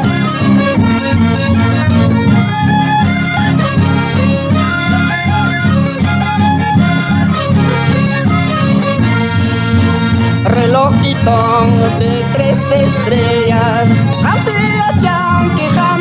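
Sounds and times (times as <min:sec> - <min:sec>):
folk band instrumental music: 0:00.0 - 0:16.0.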